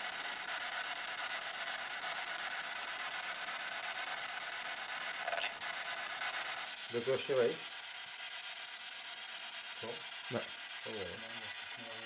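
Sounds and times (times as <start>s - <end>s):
electronic static hiss: 0.0s - 12.0s.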